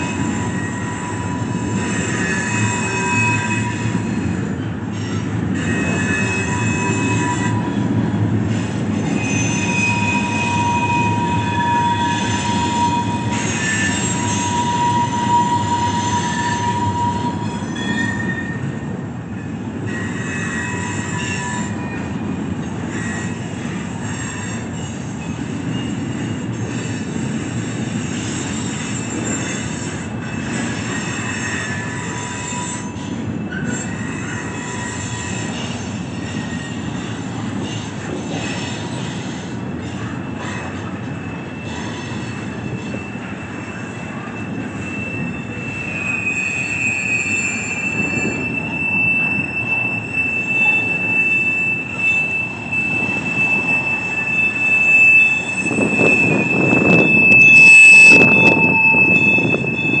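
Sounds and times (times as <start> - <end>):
freight cars rumbling: 0.0 - 60.0
wheels squealing: 0.0 - 60.0.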